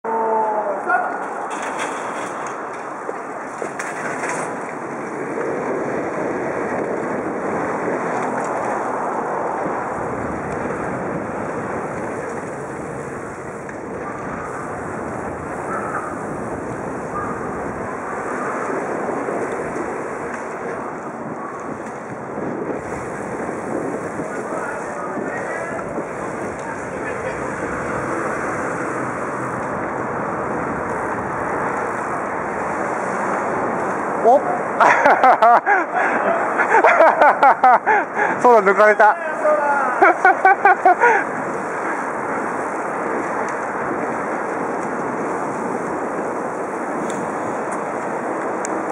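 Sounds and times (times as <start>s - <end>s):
tyres rolling on dirt: 0.7s - 48.9s
wind noise on microphone: 1.4s - 48.9s.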